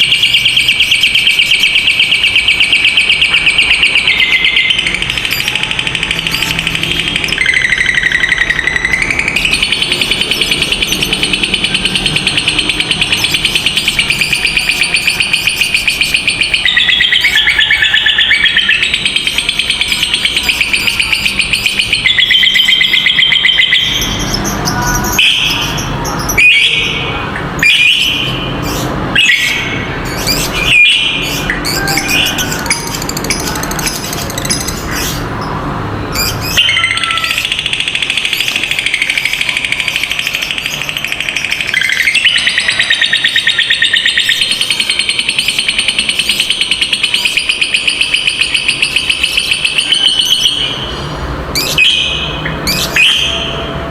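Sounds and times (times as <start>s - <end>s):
lovebirds chattering trill: 0.0s - 53.9s
shrill bird chirps: 0.0s - 53.9s.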